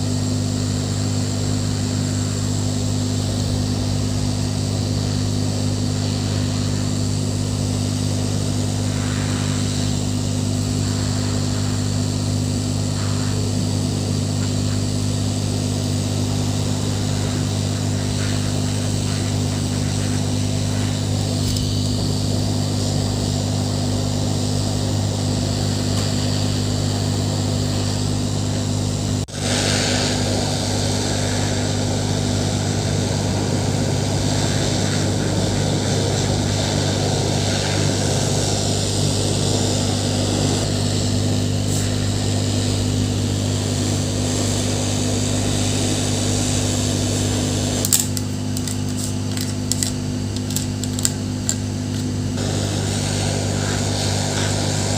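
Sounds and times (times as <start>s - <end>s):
electric air blower humming: 0.0s - 54.9s.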